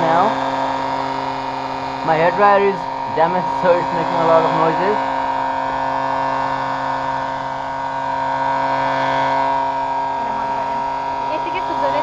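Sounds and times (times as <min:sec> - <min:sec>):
hair dryer whining: 0:00.0 - 0:12.0.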